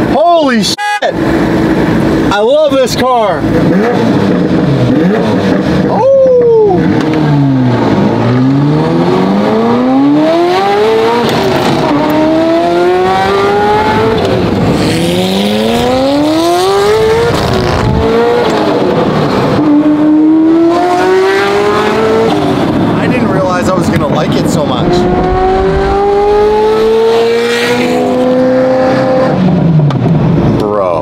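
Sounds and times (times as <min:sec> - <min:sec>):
car engine accelerating: 0:03.4 - 0:30.6.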